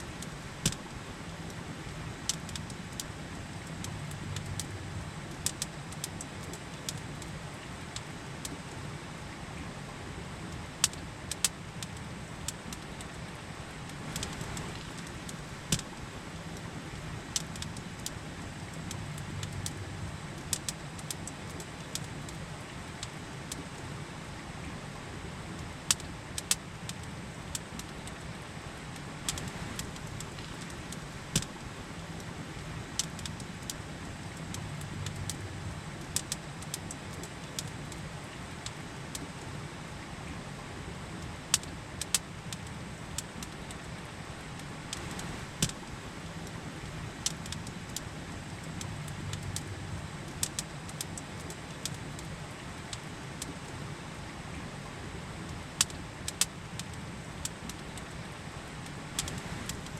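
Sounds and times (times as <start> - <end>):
campfire crackling and popping: 0.0 - 8.8, 10.4 - 23.8, 25.5 - 39.4, 41.0 - 53.8, 55.4 - 59.9
river rushing: 0.0 - 59.9.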